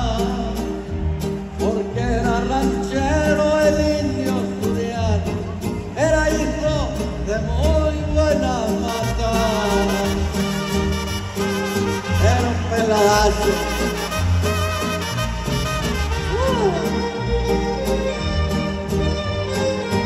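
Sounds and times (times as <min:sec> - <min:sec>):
mariachi band playing: 0:00.0 - 0:20.0.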